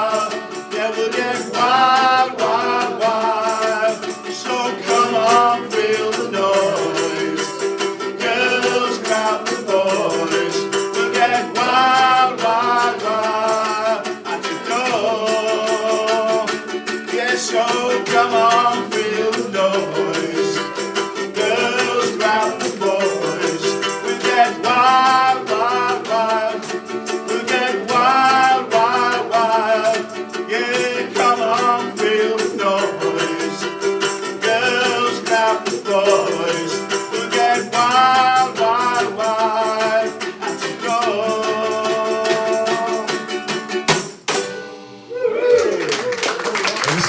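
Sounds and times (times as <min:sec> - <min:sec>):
voices singing along: 0:00.0 - 0:43.4
shaker rhythm: 0:00.0 - 0:45.2
ukuleles strumming: 0:00.0 - 0:45.9.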